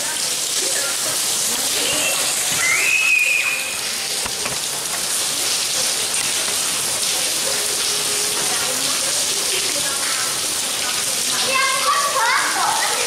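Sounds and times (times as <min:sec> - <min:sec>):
heavy rain on tiles: 0:00.0 - 0:13.0.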